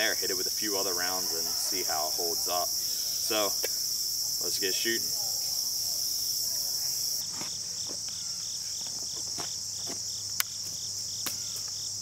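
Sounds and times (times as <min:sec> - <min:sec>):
crickets trilling: 0:00.0 - 0:12.0
repeating insect chirp: 0:00.0 - 0:12.0.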